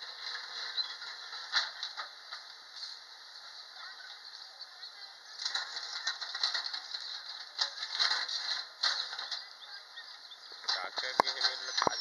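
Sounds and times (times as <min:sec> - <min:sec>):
loader bucket scraping stones: 0:00.0 - 0:03.0, 0:05.2 - 0:12.0.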